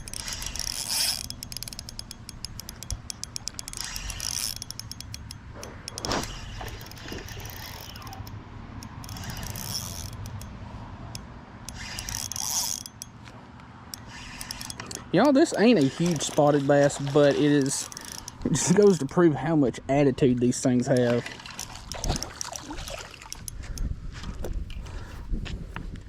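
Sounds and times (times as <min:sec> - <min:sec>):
fishing reel clicking: 0:00.0 - 0:13.3, 0:13.9 - 0:19.3, 0:20.8 - 0:23.9.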